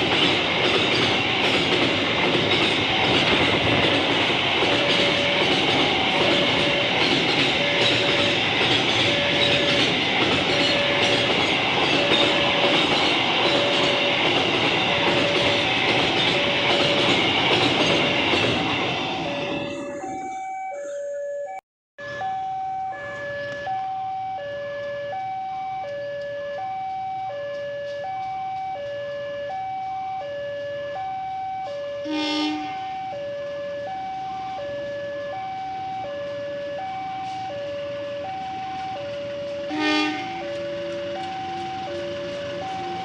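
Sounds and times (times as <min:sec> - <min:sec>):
level crossing two-tone alarm: 0:04.2 - 0:43.0.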